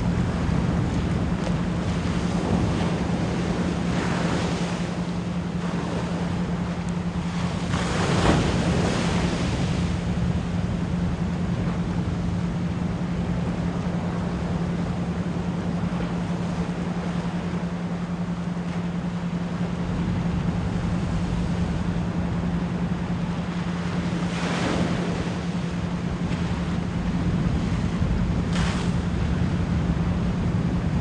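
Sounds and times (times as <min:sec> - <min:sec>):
constant pure tone: 0:00.0 - 0:31.0
waves breaking: 0:00.0 - 0:31.0.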